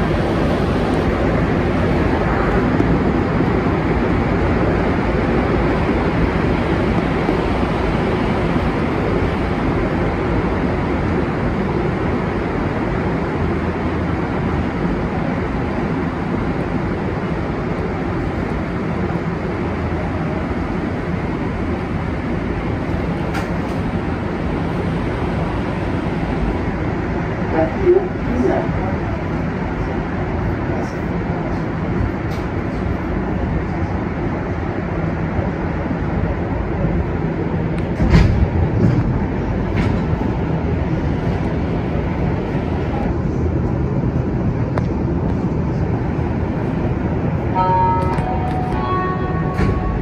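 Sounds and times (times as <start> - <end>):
train rumbling through tunnel: 0.0 - 50.0.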